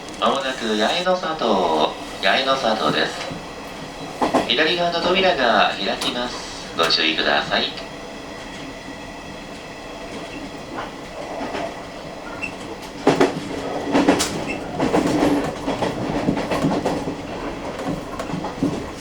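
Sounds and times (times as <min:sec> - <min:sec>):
electric train running: 0:00.0 - 0:19.0
wheels clacking over rail joints: 0:00.0 - 0:19.0.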